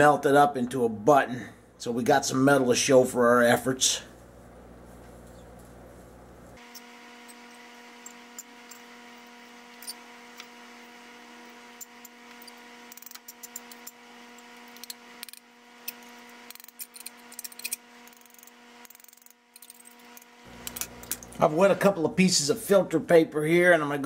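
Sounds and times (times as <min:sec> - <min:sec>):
steady hum: 0:00.0 - 0:23.2.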